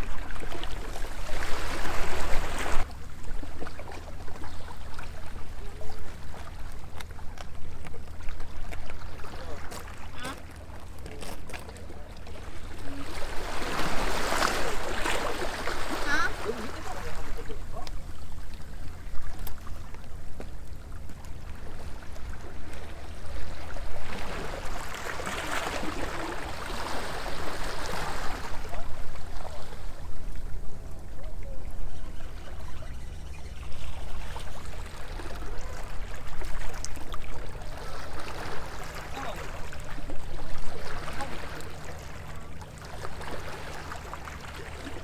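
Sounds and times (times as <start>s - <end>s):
waves lapping against a seawall: 0.0s - 45.0s.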